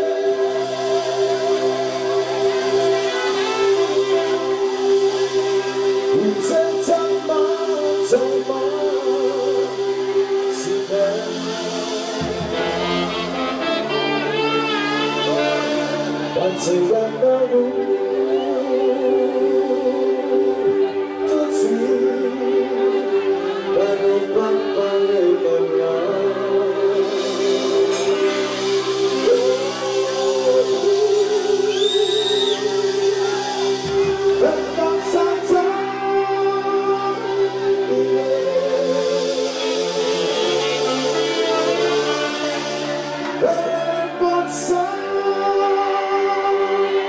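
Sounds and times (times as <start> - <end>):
live band playing: 0.0 - 47.0
man singing into microphone: 0.0 - 47.0.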